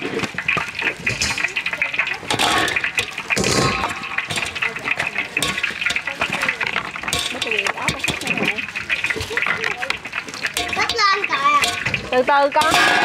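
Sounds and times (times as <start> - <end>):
tofu sizzling in hot oil: 0.0 - 13.0
voices chattering: 0.9 - 13.0.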